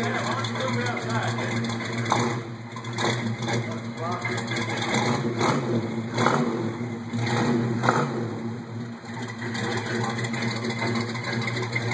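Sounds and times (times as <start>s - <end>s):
vvee engine idling: 0.0s - 11.9s.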